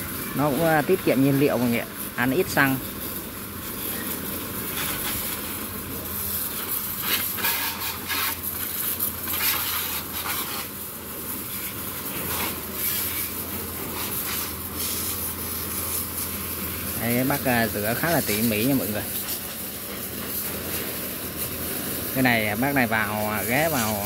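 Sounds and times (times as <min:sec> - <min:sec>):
high-pressure water jet hissing: 0:00.0 - 0:24.0.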